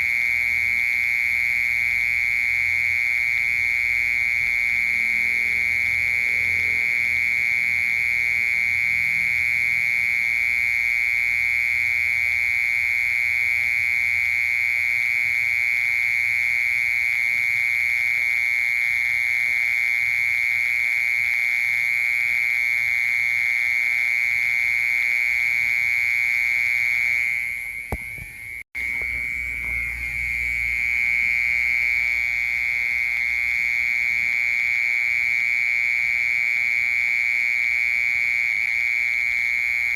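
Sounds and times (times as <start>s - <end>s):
mole cricket buzzing trill: 0.0s - 39.9s.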